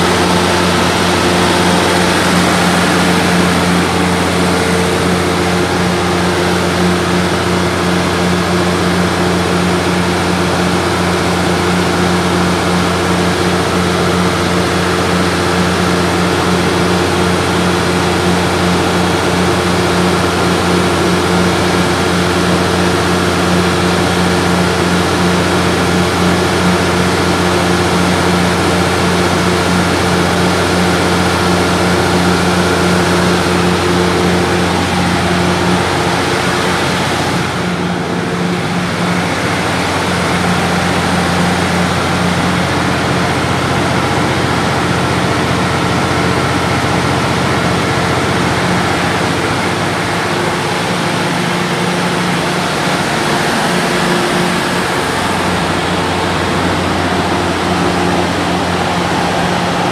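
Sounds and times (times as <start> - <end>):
diesel generator engine running: 0.0 - 59.9.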